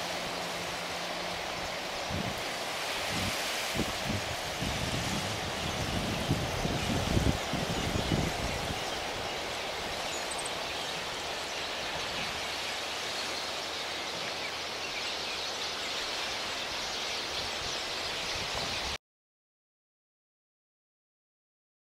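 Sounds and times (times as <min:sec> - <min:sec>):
gentle surf: 0:00.0 - 0:19.0.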